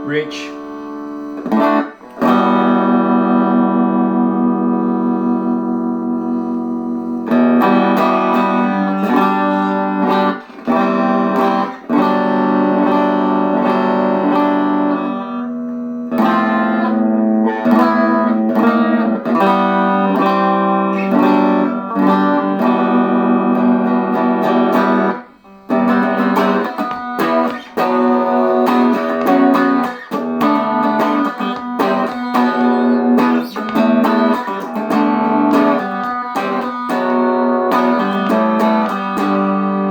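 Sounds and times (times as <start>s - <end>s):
electric guitar strummed and picked: 0.0s - 39.9s.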